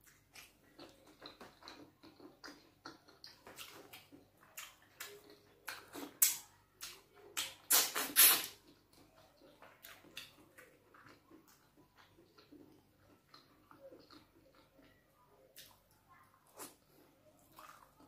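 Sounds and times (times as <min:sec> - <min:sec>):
soft chewing clicks: 0:00.0 - 0:07.7, 0:08.5 - 0:18.0
wet mouth sounds: 0:00.1 - 0:15.0.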